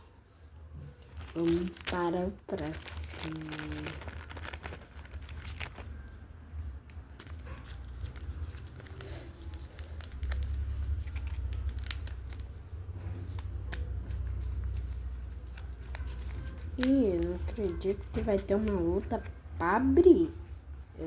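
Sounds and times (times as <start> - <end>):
plastic wrapper crinkling: 1.0 - 6.2, 7.0 - 19.4.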